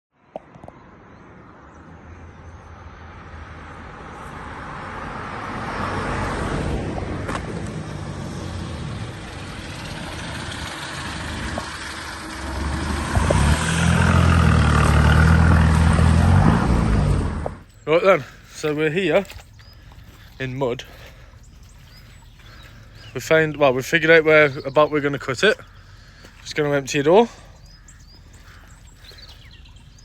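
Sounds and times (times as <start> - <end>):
vehicle engine and road noise: 0.2 - 30.0.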